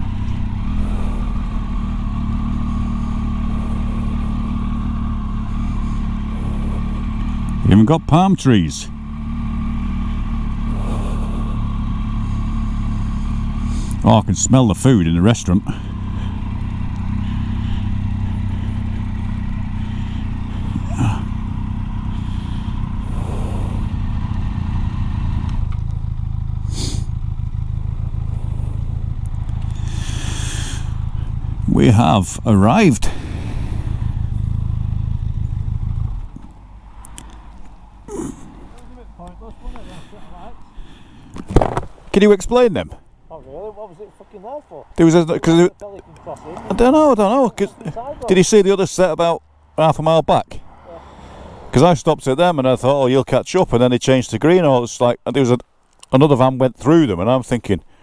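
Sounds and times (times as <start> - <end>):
motorcycle engine idling: 0.0 - 49.8.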